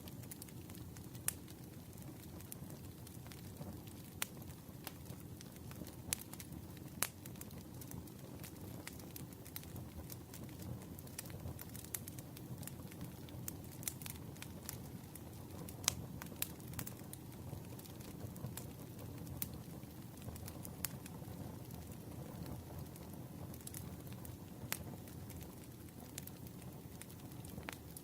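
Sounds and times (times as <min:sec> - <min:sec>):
campfire crackling and popping: 0:00.0 - 0:28.0
low rumble of flames: 0:00.0 - 0:28.0.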